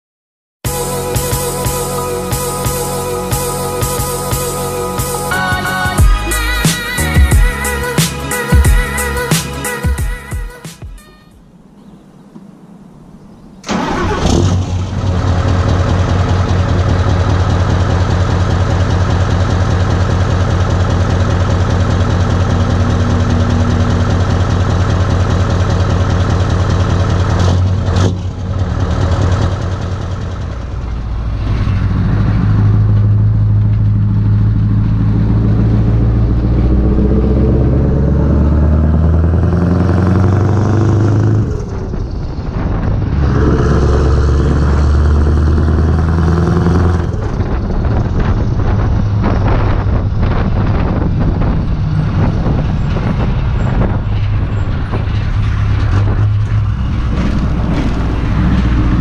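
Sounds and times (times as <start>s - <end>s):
diesel engine revving: 0.7s - 10.3s, 13.6s - 59.0s.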